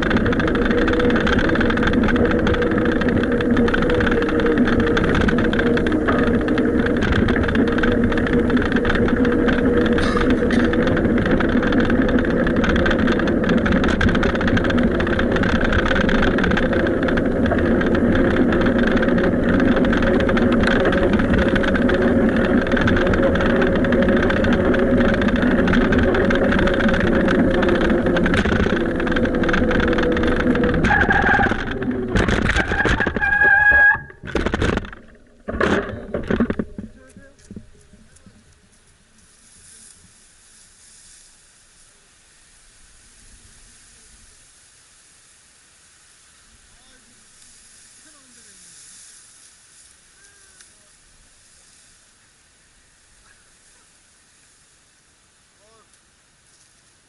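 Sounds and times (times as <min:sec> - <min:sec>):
bicycle road noise: 0:00.0 - 0:57.0
constant low hum: 0:00.0 - 0:57.0.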